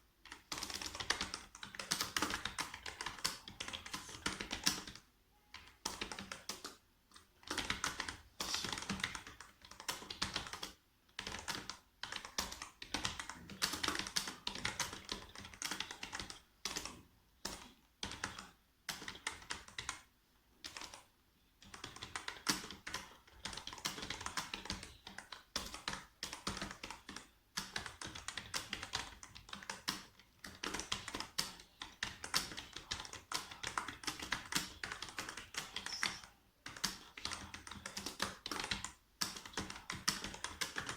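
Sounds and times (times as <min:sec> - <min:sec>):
fast keyboard typing: 0:00.2 - 0:40.9.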